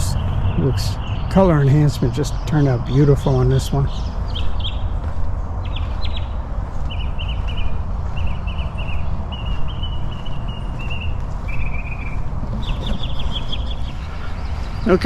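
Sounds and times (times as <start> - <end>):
bird chirping: 0.0 - 15.0
steady low rumble: 0.0 - 15.0.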